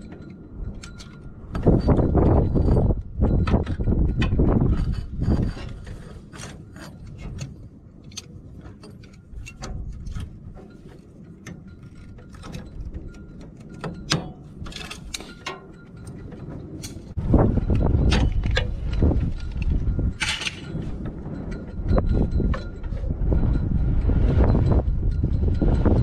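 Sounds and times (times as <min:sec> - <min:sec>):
metal tools clicking and clinking: 0:00.0 - 0:23.6.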